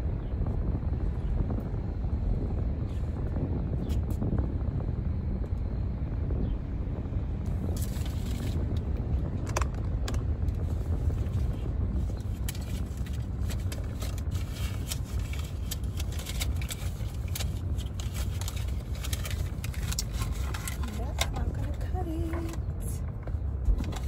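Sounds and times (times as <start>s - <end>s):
car cabin low rumble: 0.0s - 24.0s.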